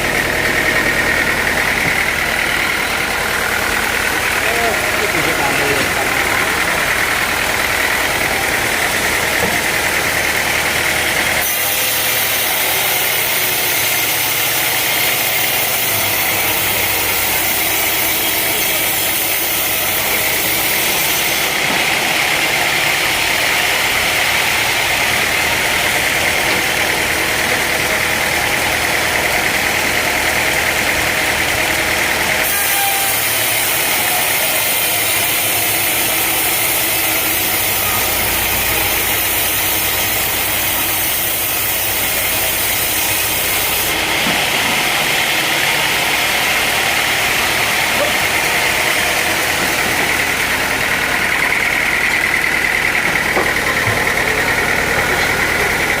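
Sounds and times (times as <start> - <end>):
sawmill saw whining: 0.0 - 56.0.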